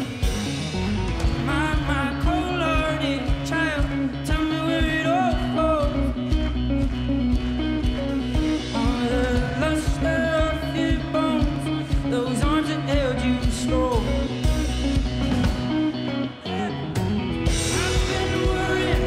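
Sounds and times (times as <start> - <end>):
live band with guitar and bass: 0.0 - 19.0
man singing: 1.4 - 6.6, 8.3 - 19.0.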